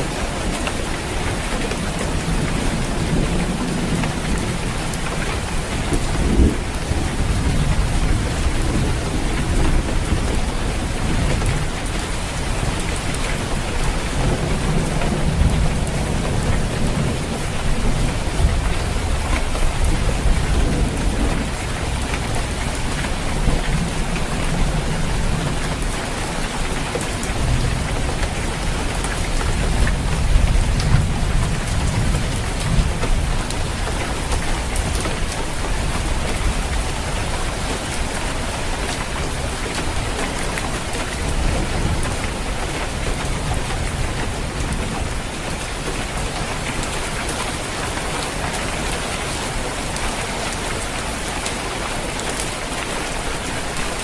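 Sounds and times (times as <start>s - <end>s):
rain on a roof: 0.0s - 54.0s
rumbling thunder: 2.0s - 46.9s.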